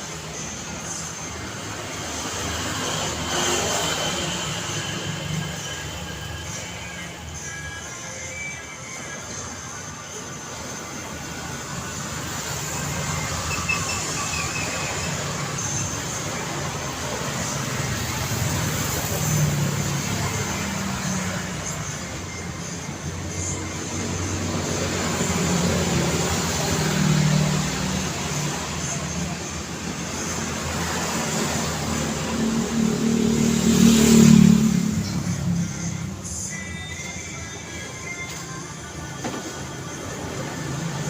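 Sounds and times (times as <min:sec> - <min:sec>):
passing cars: 0:00.0 - 0:07.0, 0:10.7 - 0:36.6.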